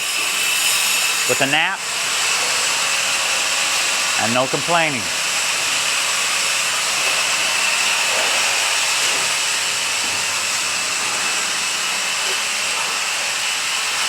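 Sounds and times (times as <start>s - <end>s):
loud steady hiss: 0.0s - 14.0s.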